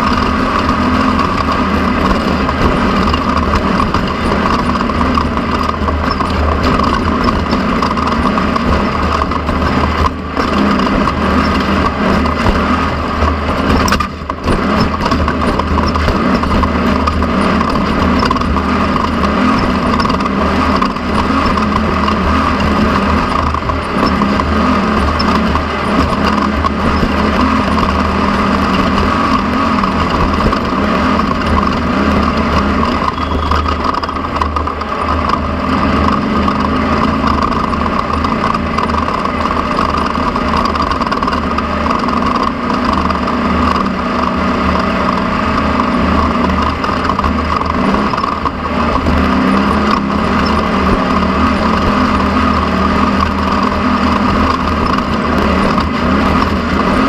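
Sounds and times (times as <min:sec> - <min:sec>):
vehicle engine droning: 0:00.0 - 0:57.0
vehicle moving over ground: 0:00.0 - 0:57.0.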